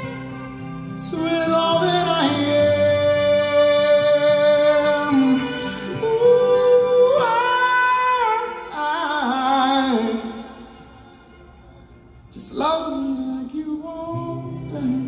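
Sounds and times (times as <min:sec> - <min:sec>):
acoustic guitar: 0:00.0 - 0:15.0
violin: 0:00.0 - 0:15.0.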